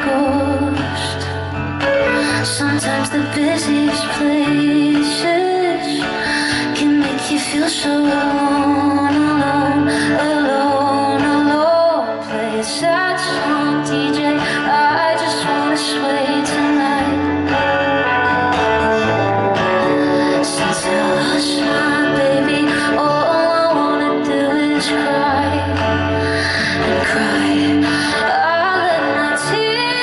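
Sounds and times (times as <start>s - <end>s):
instrumental backing with bass: 0.0s - 30.0s
woman singing pop song: 0.0s - 30.0s.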